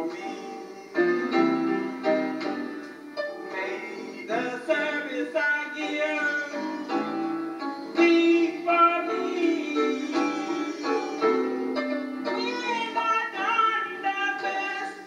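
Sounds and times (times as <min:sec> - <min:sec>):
piano accompaniment: 0:00.0 - 0:15.0.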